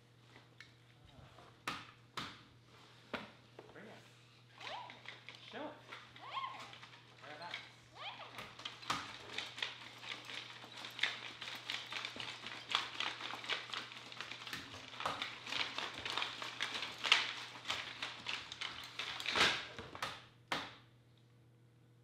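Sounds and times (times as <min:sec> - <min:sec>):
objects rustling and clattering: 0:00.2 - 0:20.7.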